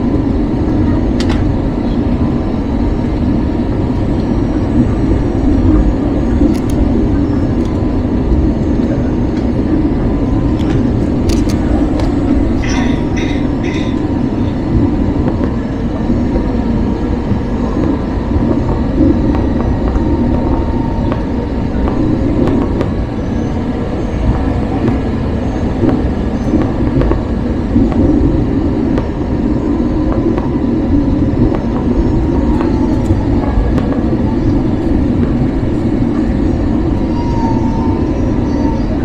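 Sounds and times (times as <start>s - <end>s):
airplane cabin rumble: 0.0s - 39.0s
faint steady whine: 0.0s - 39.0s.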